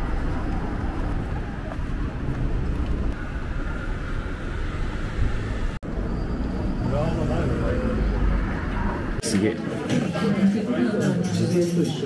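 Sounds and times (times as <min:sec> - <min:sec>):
road traffic rumble: 0:00.0 - 0:09.9.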